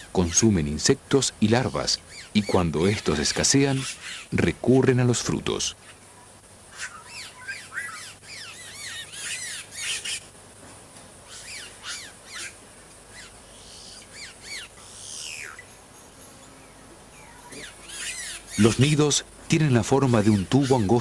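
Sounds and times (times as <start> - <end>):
birds whistling calls: 1.4 - 4.5, 5.7 - 10.4, 11.2 - 21.0.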